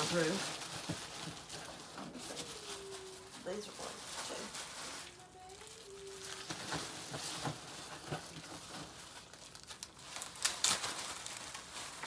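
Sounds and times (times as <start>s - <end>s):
cards rustling and crinkling: 0.0s - 12.0s.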